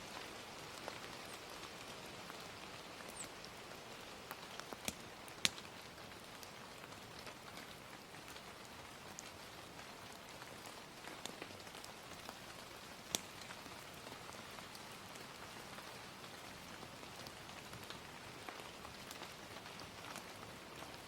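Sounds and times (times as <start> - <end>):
steady rain: 0.0 - 21.0
wood fire crackling: 0.1 - 21.0.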